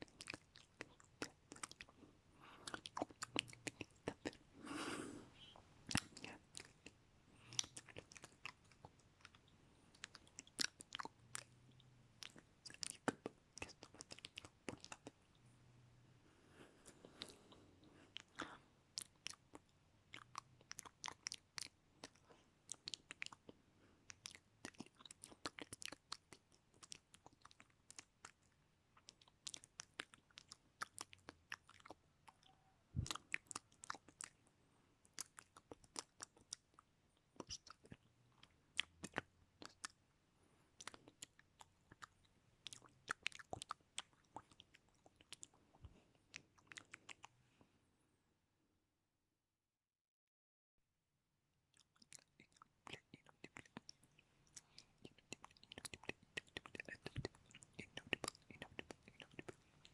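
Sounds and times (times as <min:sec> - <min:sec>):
wet mouth clicks and smacks: 0:00.0 - 0:02.0, 0:02.6 - 0:04.4, 0:05.9 - 0:11.6, 0:12.2 - 0:15.2, 0:18.2 - 0:34.4, 0:35.1 - 0:40.0, 0:40.8 - 0:47.3, 0:51.7 - 0:59.9.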